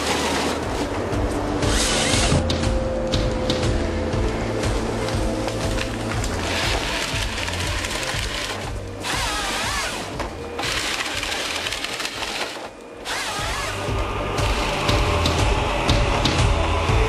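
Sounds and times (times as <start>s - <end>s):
harvester engine and hydraulics: 0.0s - 17.0s
mechanical cutting and feeding noise: 0.0s - 17.0s
music: 0.0s - 17.0s.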